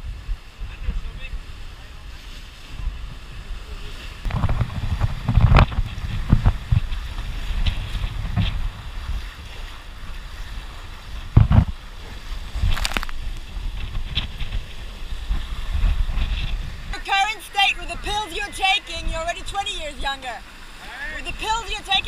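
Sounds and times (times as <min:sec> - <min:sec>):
water rushing along hull: 0:00.0 - 0:22.0
wind buffeting microphone: 0:00.0 - 0:22.0.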